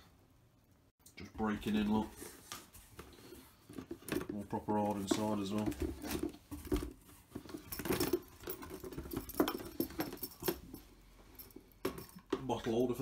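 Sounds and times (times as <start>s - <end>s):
leather rustling and creaking: 1.7s - 13.0s.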